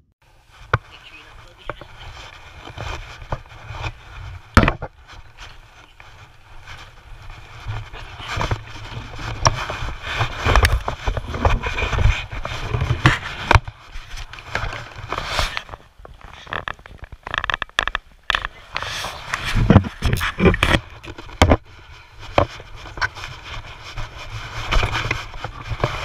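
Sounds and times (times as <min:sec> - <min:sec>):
clothing rubbing on microphone: 0:00.4 - 0:26.0.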